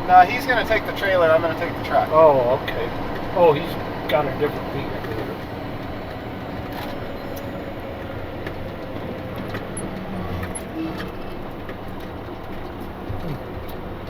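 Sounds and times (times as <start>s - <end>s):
road noise: 0.0s - 14.0s
truck engine running: 0.0s - 14.0s.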